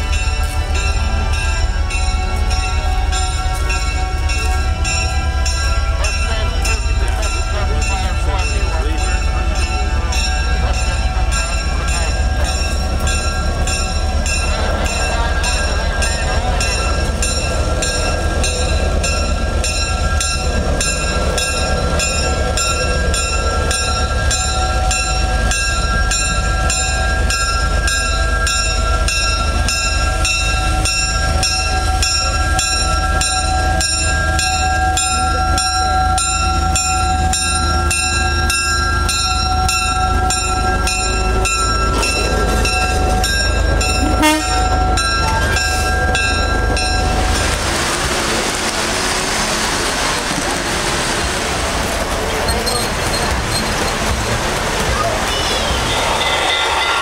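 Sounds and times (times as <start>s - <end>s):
locomotive engine rumbling: 0.0s - 57.0s.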